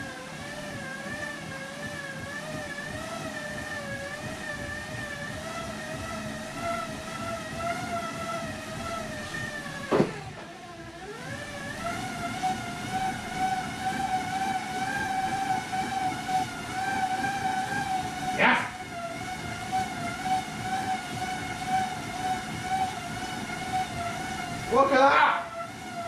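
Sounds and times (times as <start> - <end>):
bike tyres whining on rollers: 0.0 - 26.0.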